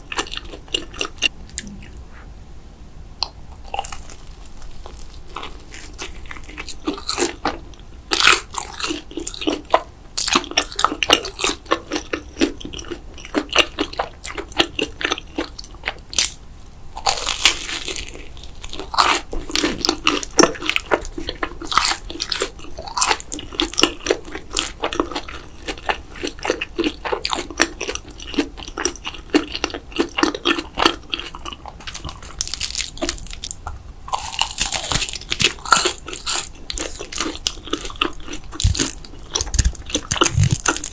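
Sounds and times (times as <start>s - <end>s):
crunchy chewing and biting: 0.0s - 2.2s, 3.2s - 16.4s, 17.0s - 40.9s.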